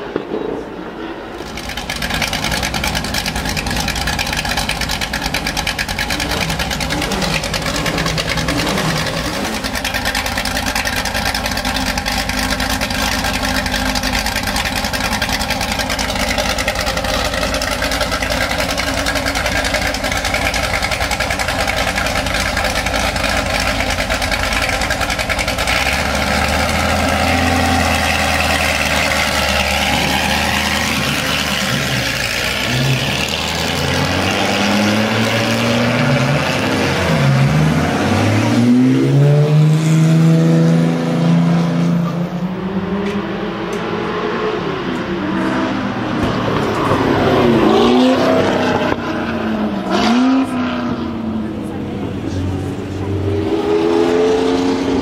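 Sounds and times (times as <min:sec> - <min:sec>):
race car engine revving: 0:01.3 - 0:55.0.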